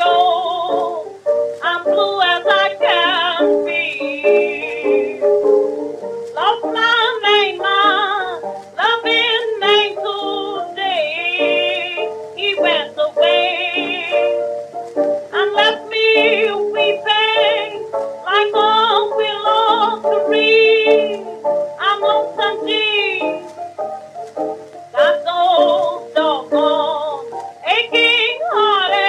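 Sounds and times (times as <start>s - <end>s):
woman singing blues: 0.0s - 5.4s, 6.4s - 14.4s, 15.3s - 23.6s, 24.9s - 29.0s
piano accompaniment: 0.0s - 29.0s.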